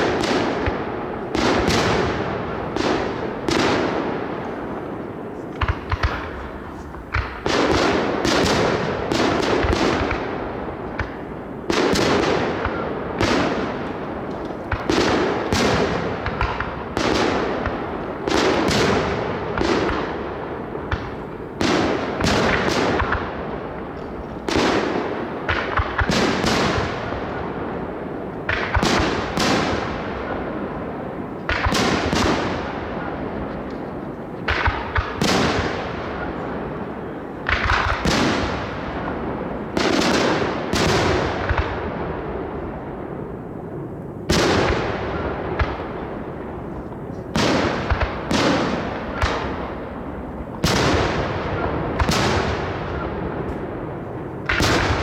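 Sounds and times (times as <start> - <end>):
fireworks bangs with rumbling echo: 0.0 - 55.0.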